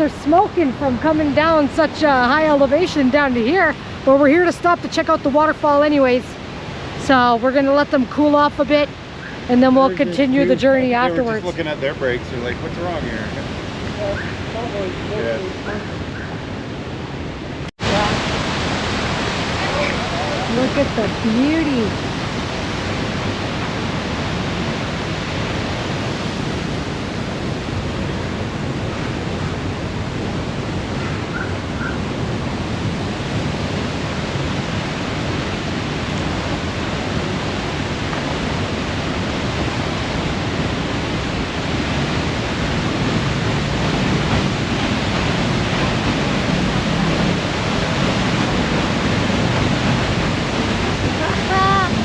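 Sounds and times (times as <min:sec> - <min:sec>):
rush of falling water: 0:00.0 - 0:52.0.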